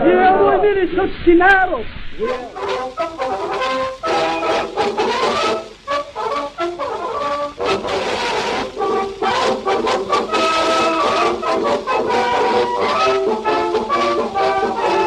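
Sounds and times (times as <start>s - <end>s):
brass band playing: 2.2s - 15.0s.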